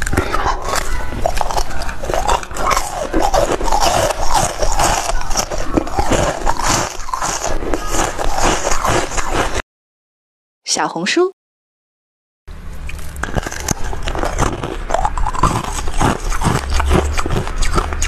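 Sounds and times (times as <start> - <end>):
crunching and chewing ice: 0.0 - 9.6, 12.8 - 18.0.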